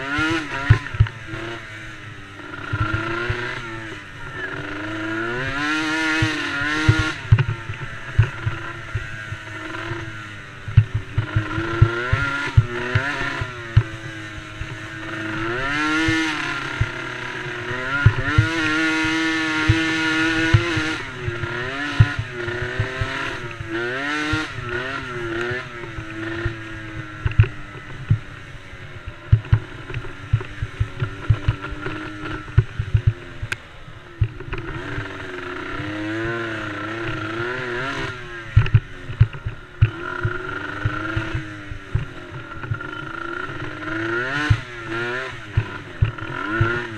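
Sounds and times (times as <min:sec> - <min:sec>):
racing atv engines revving: 0:00.0 - 0:46.9.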